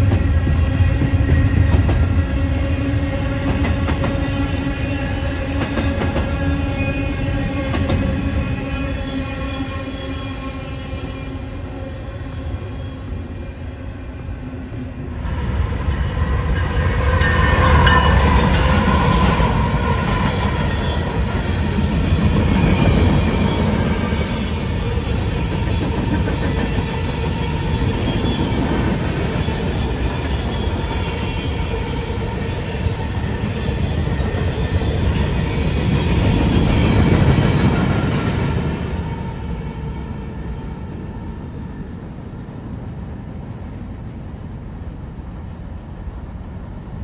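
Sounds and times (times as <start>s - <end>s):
train wheels rumbling on rails: 0.0s - 13.2s, 14.1s - 47.0s.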